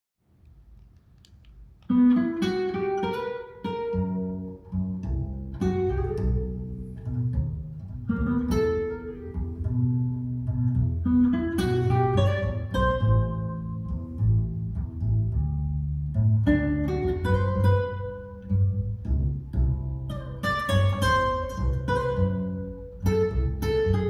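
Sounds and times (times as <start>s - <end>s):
plucked double bass: 3.7s - 24.0s.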